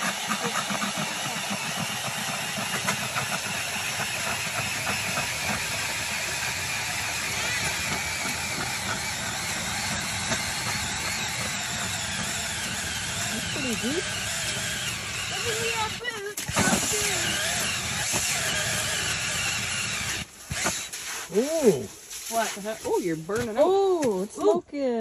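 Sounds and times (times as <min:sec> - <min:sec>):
drill motor whirring: 0:00.0 - 0:21.6
auger cutting ice crackle: 0:00.0 - 0:24.6.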